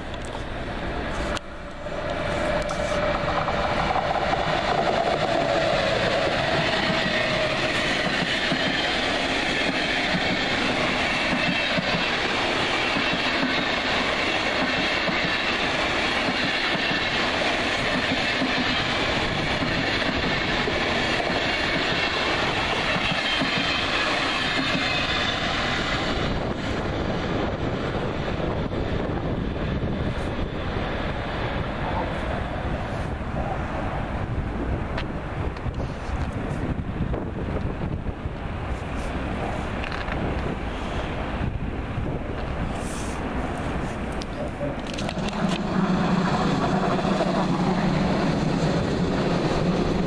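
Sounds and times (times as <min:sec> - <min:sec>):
train wheel and rail rush: 0:00.0 - 0:50.0.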